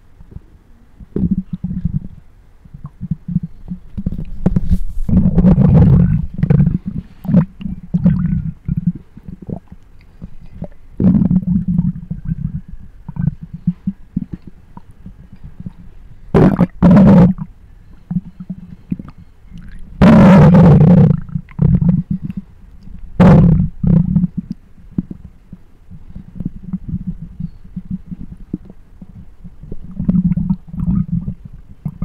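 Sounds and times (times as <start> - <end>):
stomach growling: 0.2 - 32.0.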